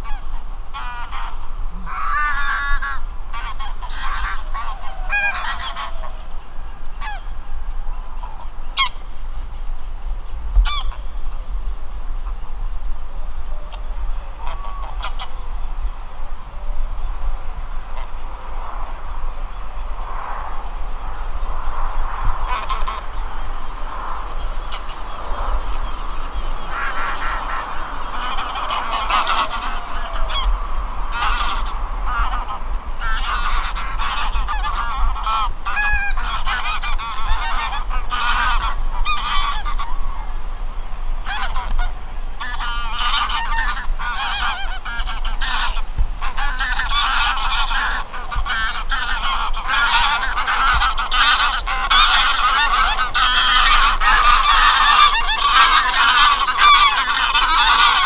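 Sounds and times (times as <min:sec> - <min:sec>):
geese honking: 0:00.0 - 0:09.6, 0:10.5 - 0:11.5, 0:13.1 - 0:40.6, 0:41.2 - 0:58.0.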